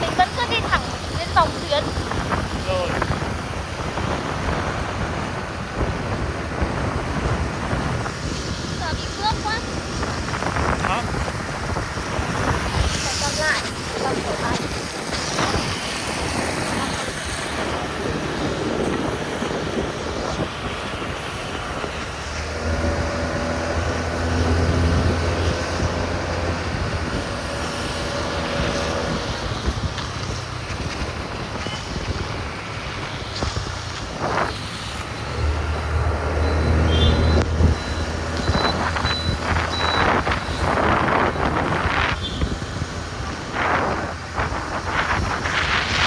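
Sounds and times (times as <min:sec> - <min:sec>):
street traffic: 0:00.0 - 0:46.0
wind buffeting microphone: 0:00.0 - 0:46.0
motorbike engine: 0:08.8 - 0:46.0.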